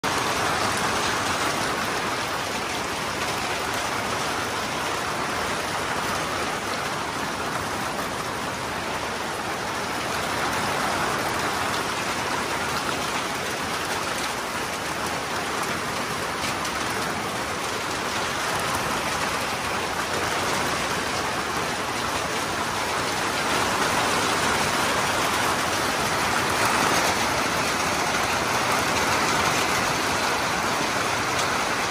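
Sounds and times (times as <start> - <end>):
steady rainfall: 0.0 - 31.9.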